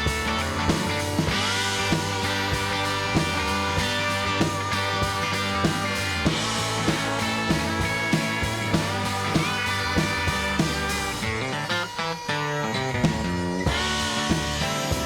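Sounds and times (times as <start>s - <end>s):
steady drum beat: 0.0s - 11.3s, 13.1s - 15.0s
rock guitar: 0.0s - 15.0s.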